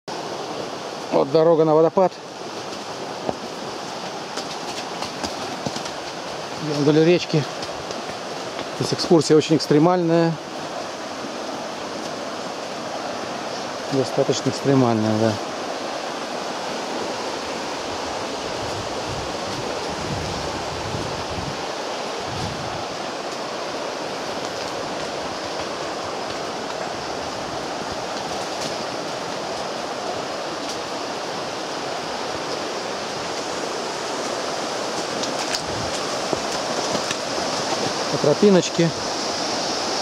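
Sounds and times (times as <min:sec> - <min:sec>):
river rushing over stones: 0:00.1 - 0:40.0.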